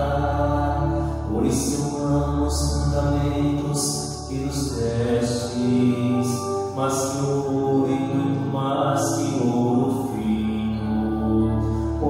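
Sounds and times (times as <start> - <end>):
person chanting long notes: 0.0 - 12.0
steady low accompaniment: 0.0 - 12.0.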